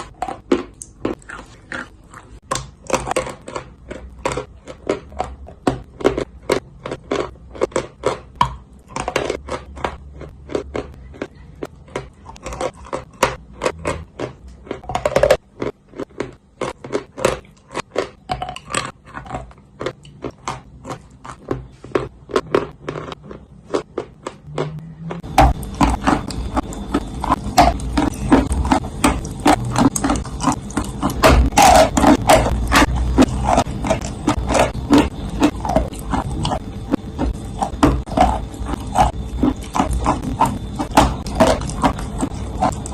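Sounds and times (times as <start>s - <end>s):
clay crunching between teeth: 0.0s - 42.9s.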